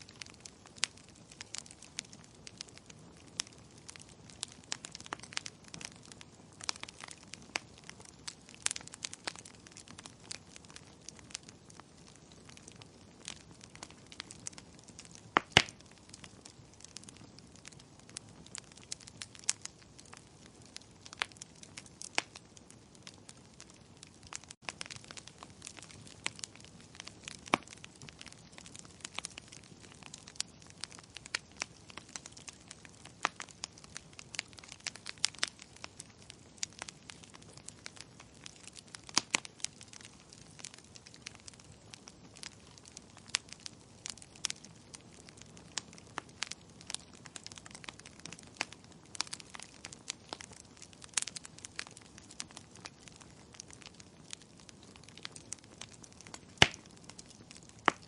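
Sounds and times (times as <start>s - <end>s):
faint steady hiss: 0.0s - 50.3s
wood fire crackling and popping: 0.0s - 58.0s.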